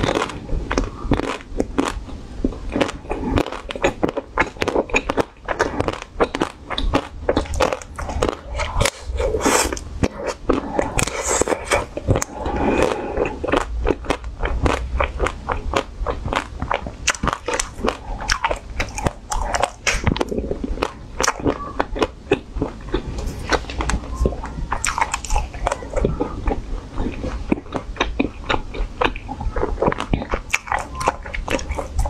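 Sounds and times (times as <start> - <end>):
crunching ice cream bar: 0.0 - 32.0.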